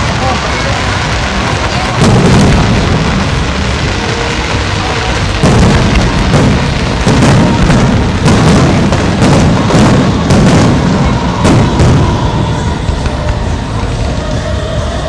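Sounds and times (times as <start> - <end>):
fireworks bursting: 0.0 - 15.0
music: 0.0 - 15.0.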